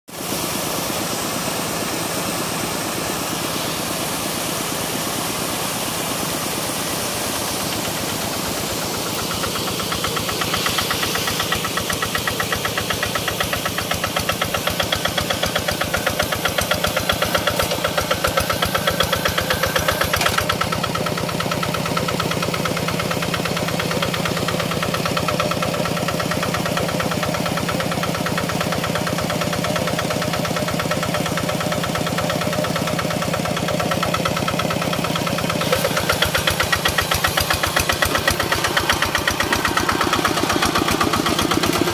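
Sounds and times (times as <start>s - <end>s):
hand tractor diesel engine chugging: 0.1s - 41.9s.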